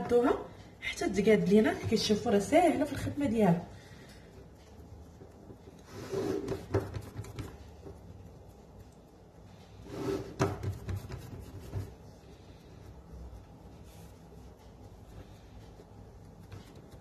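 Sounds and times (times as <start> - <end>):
hands rubbing dough: 0.0 - 17.0.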